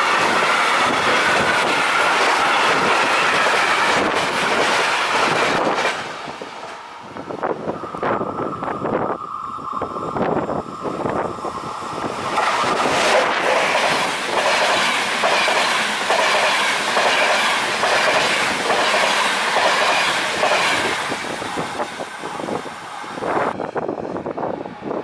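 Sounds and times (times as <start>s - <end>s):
train rushing past: 0.0s - 25.0s.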